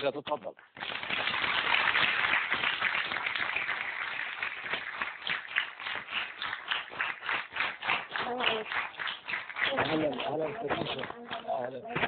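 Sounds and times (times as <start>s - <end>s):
audience applauding: 0.6s - 12.0s.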